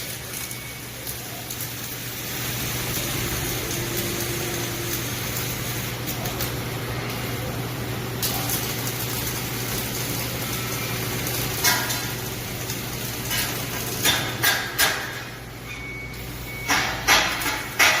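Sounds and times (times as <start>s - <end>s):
electrical hum: 0.0s - 17.7s
machine noise: 0.0s - 18.0s.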